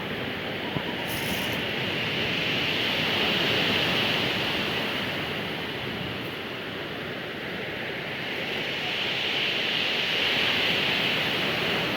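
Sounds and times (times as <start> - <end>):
sea surf washing ashore: 0.0 - 11.9.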